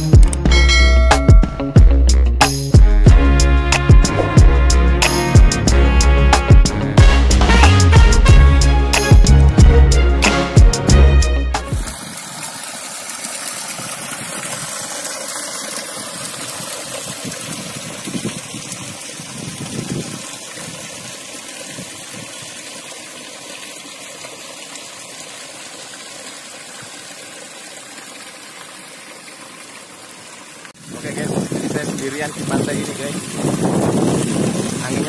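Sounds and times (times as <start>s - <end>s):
water gushing into pool: 6.4s - 35.0s.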